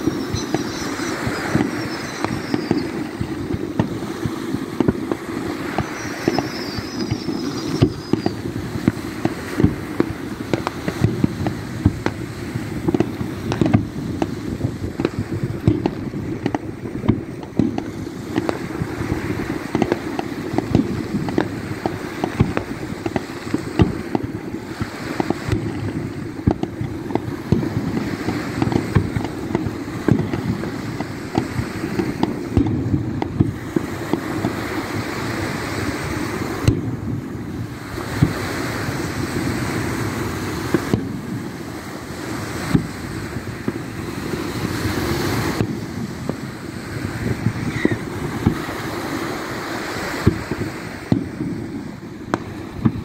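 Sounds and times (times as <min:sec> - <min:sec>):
fireworks popping and crackling: 0:00.0 - 0:53.0
loud firework bangs: 0:00.0 - 0:53.0
surf on shore: 0:00.0 - 0:53.0
wind on microphone: 0:00.0 - 0:53.0.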